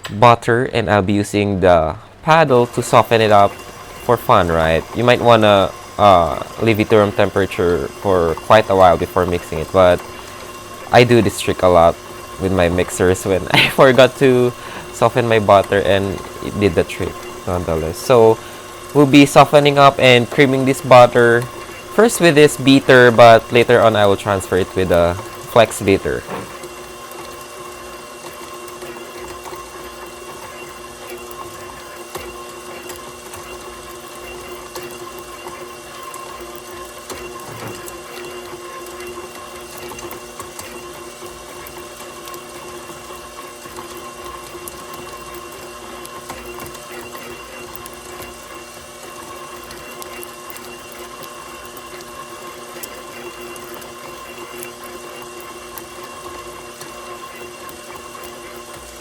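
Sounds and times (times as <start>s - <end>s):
stand mixer motor whining: 0.0s - 59.0s.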